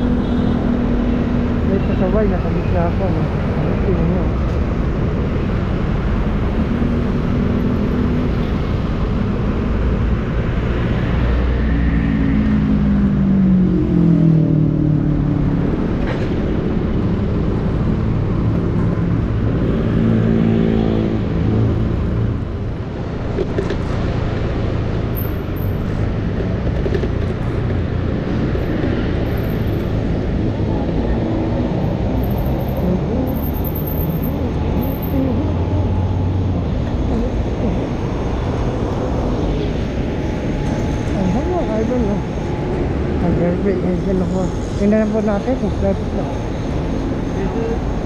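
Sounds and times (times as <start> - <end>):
motorcycle and car engines: 0.0 - 48.0
road and wind rumble: 0.0 - 48.0.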